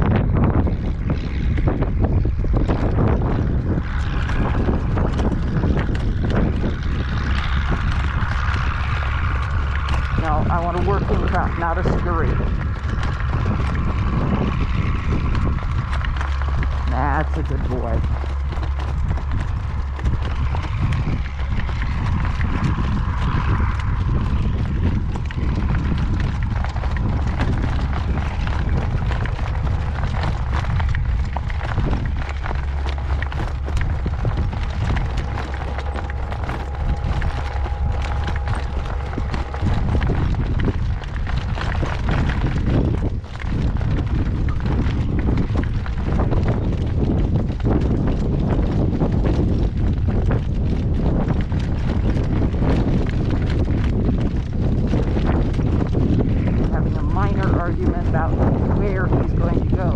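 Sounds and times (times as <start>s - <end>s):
horse trotting in harness: 0.0s - 59.9s
wind buffeting microphone: 0.0s - 59.9s.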